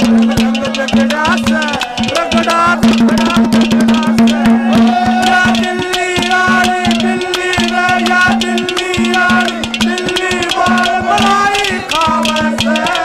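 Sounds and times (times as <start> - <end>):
fast hand drum rhythm: 0.0 - 13.0.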